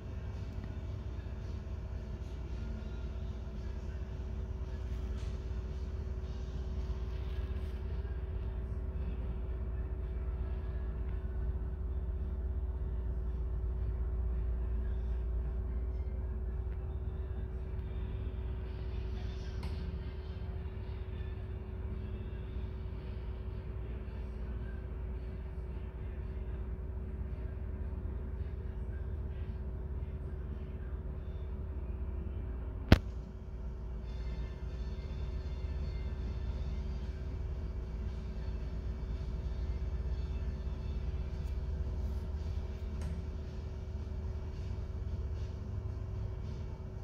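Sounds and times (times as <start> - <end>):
mid-pitched hum: 0.0 - 47.0.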